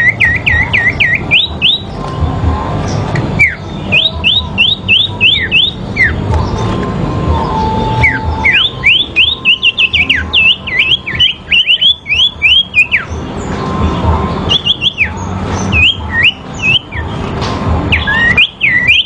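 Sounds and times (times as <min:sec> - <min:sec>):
low rumbling noise: 0:00.0 - 0:18.4
songbirds singing: 0:00.0 - 0:19.0.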